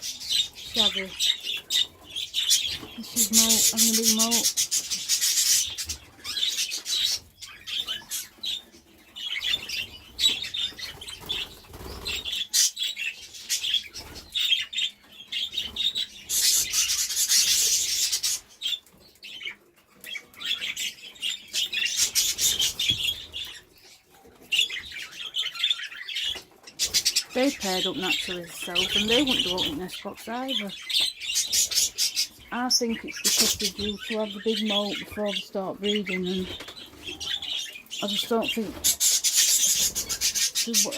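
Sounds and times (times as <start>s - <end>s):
budgie wingbeats rustling: 0.0s - 25.3s, 25.9s - 40.9s.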